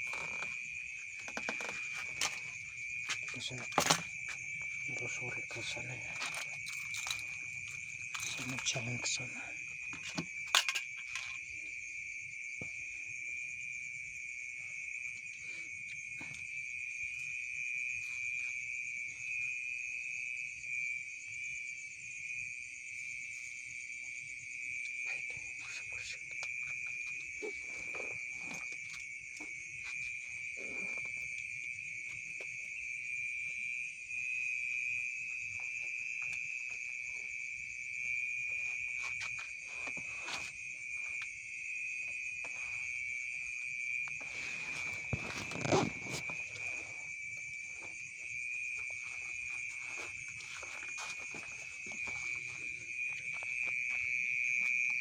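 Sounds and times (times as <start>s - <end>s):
night insects trilling: 0.0s - 55.0s.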